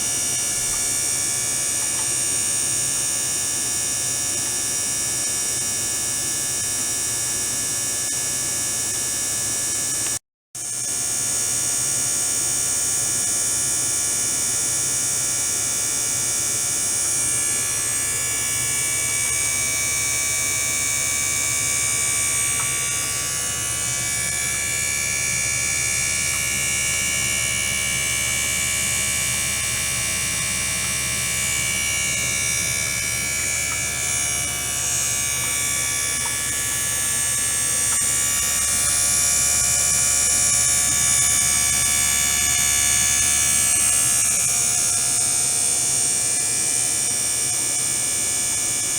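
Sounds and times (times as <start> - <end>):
electrical hum with high tones: 0.0 - 48.9.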